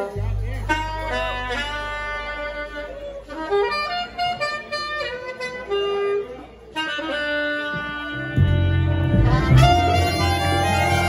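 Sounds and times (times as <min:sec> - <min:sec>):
alto saxophone jazz solo: 0:00.0 - 0:11.0
jazz band playing: 0:00.0 - 0:11.0.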